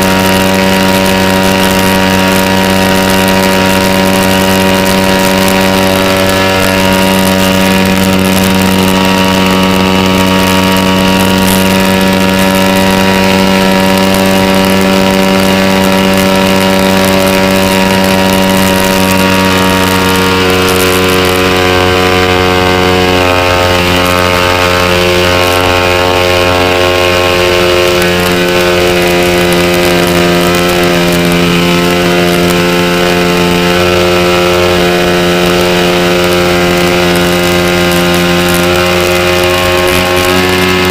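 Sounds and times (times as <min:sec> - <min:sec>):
model airplane engine running: 0:00.0 - 0:40.9.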